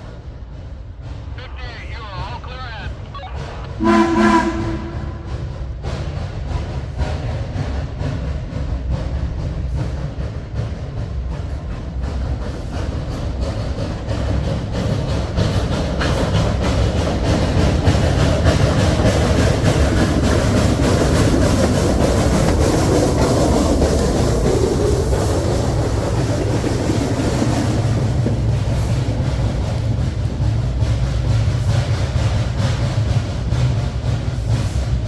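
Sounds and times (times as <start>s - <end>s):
train rumbling on track: 0.0s - 35.0s
wheels clicking on rails: 5.4s - 35.0s.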